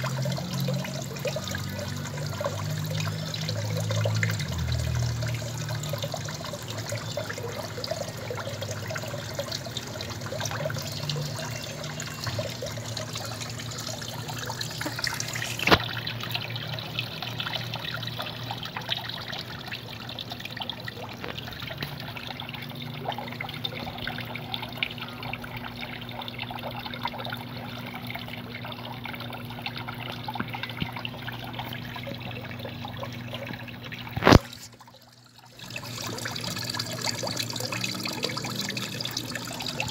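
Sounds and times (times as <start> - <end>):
low steady hum: 0.0 - 39.9
water trickling: 0.0 - 39.9.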